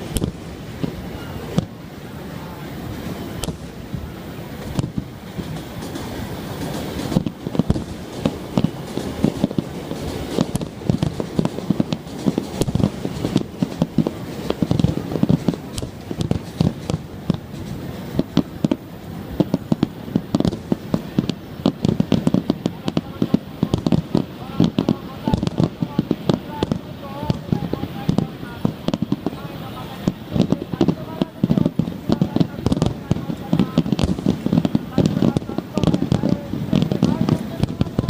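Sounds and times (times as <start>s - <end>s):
fireworks bursts and bangs: 0.0s - 38.0s.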